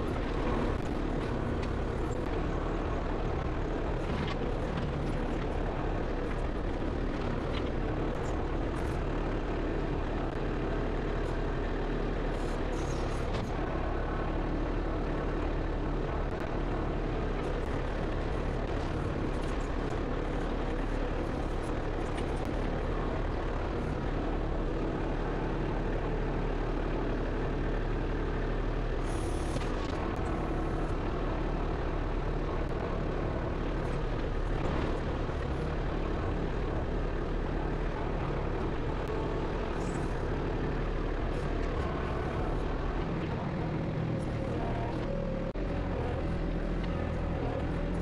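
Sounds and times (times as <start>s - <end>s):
backhoe engine running under load: 0.0s - 48.0s.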